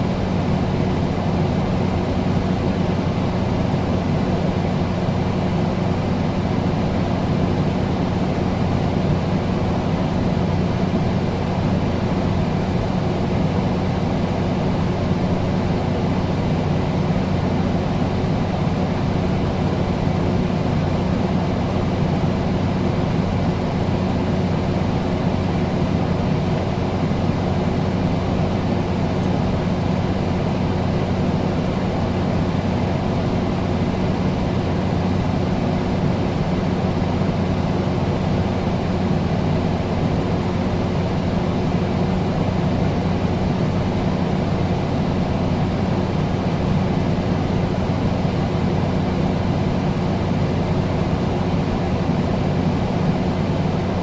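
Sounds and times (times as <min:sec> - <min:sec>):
air conditioner running: 0:00.0 - 0:54.0.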